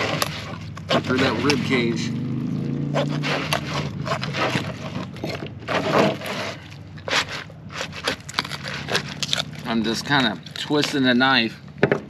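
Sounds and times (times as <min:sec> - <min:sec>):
knife sawing through fish bones: 0:00.0 - 0:02.0, 0:02.8 - 0:11.5.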